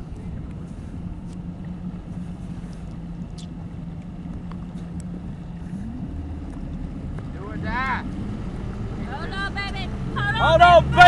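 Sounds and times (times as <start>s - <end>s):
motorboat engine running: 0.0s - 11.0s
wind and water rumble: 0.0s - 11.0s.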